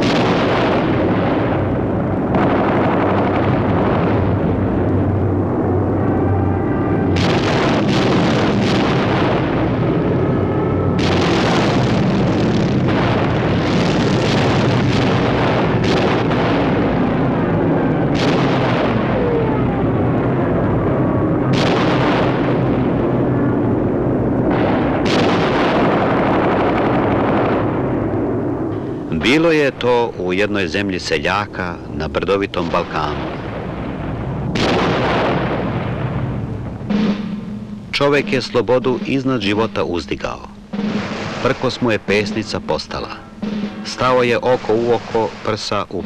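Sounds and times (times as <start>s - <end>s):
bomb explosions: 0.0s - 46.0s
heavy rumble: 0.0s - 46.0s.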